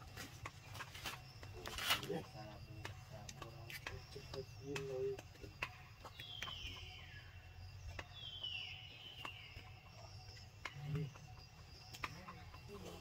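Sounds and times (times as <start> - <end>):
faint scattered ticks: 0.0 - 13.0.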